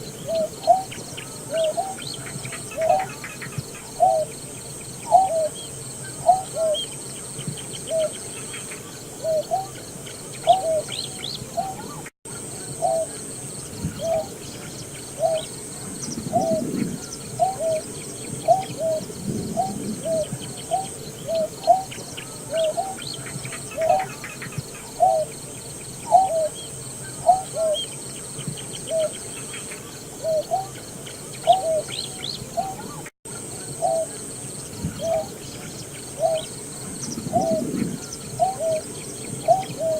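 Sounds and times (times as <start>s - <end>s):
bird low hooting notes: 0.0s - 39.9s
faint bird chirps: 0.0s - 39.9s.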